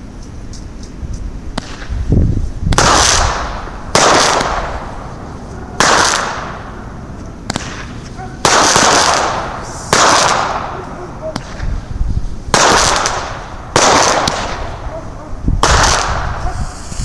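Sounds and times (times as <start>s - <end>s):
firework shots crackling: 0.0s - 17.0s.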